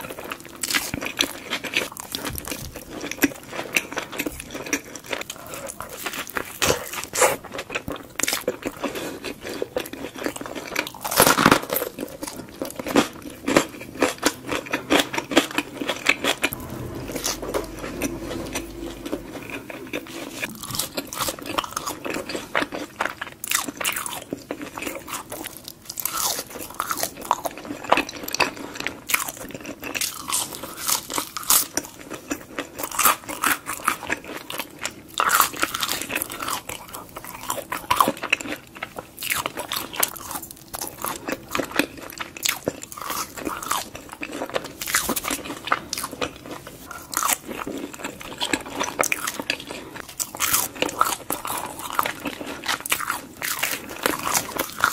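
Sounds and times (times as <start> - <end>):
chewing crispy fries: 0.0 - 16.5, 20.4 - 54.9.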